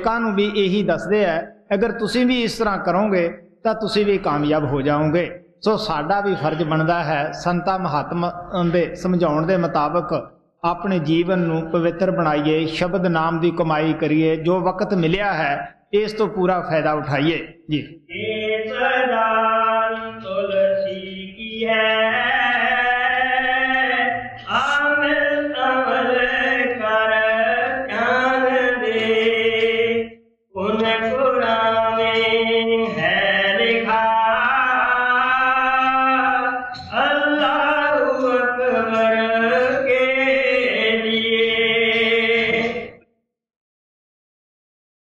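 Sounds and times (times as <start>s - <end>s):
person chanting: 0.0s - 43.0s.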